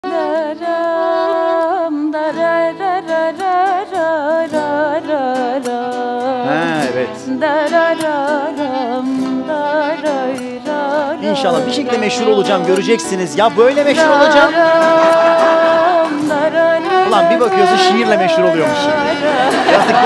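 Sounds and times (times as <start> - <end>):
instrumental accompaniment: 0.0 - 20.0
woman singing melismatically: 0.0 - 20.0.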